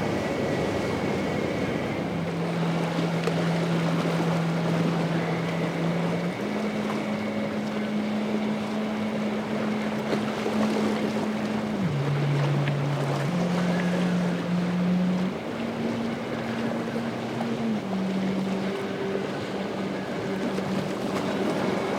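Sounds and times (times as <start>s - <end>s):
boat engine droning: 0.0s - 21.9s
surf: 0.0s - 21.9s.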